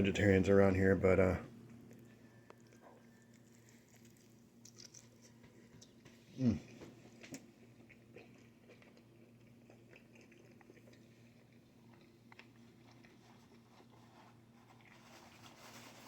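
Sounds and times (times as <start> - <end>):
low steady hum: 0.0 - 16.0
faint chewing: 1.6 - 16.0.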